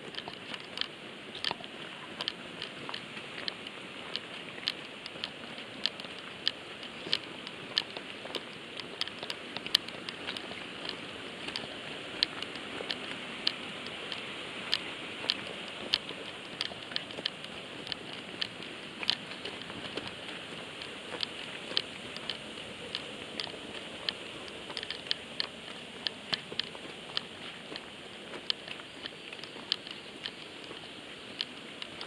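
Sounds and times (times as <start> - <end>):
footsteps on stony track: 0.0 - 32.0
steady hiss: 0.0 - 32.0
pole tip clicking on stones: 0.1 - 32.0.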